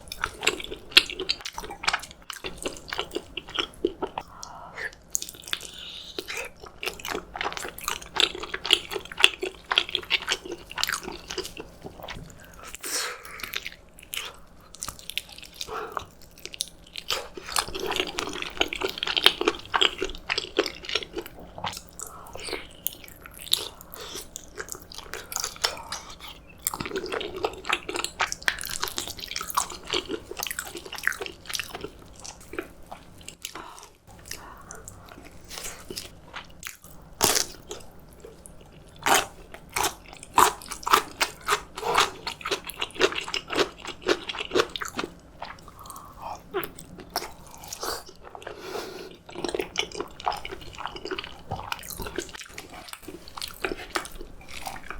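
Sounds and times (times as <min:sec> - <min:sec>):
person chewing and biting food: 0:00.0 - 0:54.9.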